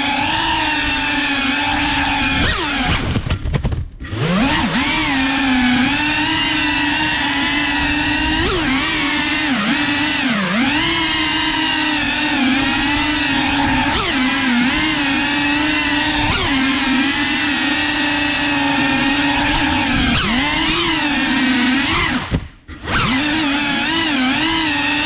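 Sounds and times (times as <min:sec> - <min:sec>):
drone propellers buzzing: 0:00.0 - 0:03.2, 0:04.0 - 0:25.0.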